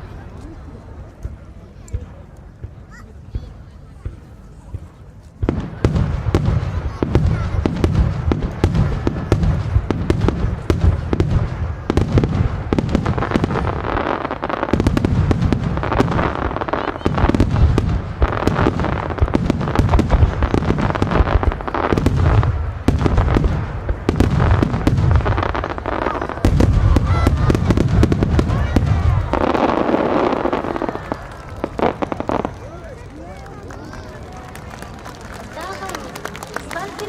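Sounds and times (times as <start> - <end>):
fireworks crackling: 0.0 - 37.0
fireworks bursting: 3.9 - 37.0.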